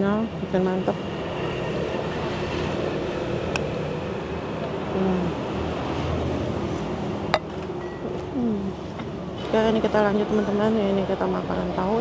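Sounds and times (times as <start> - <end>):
busy road traffic: 0.0 - 12.0.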